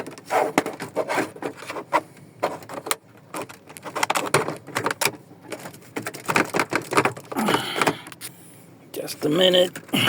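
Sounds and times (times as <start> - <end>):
plastic parts clicking and rattling: 0.0 - 8.2.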